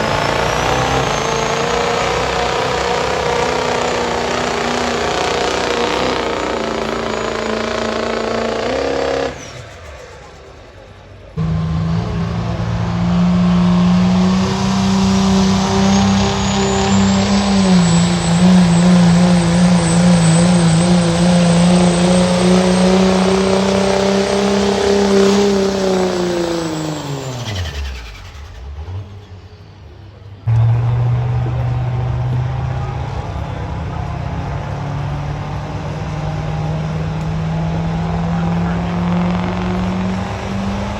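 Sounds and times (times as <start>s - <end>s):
diesel truck engine at full throttle: 0.0s - 40.9s.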